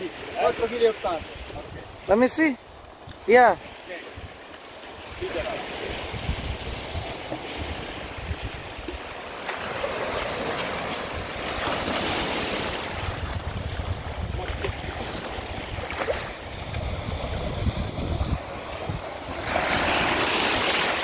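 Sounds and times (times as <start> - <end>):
small waves washing over sand: 0.0 - 21.0
wind buffeting microphone: 0.0 - 21.0.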